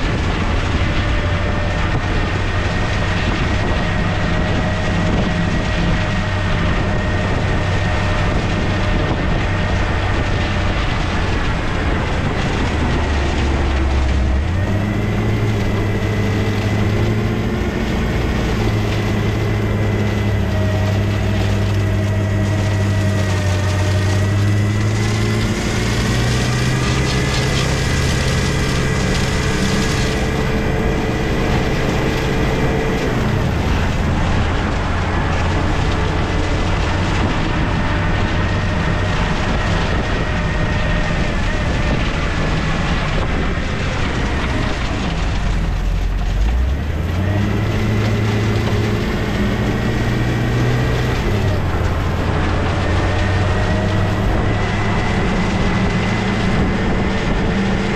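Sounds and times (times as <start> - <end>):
truck diesel engine shifting gears: 0.0 - 57.9.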